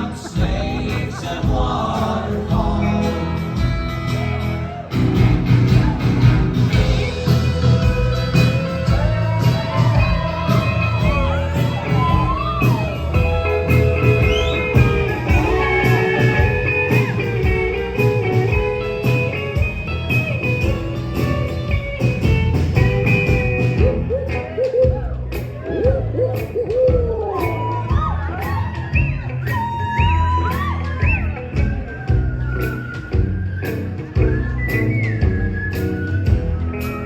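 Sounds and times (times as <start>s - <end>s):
live band playing instrumental: 0.0s - 37.0s.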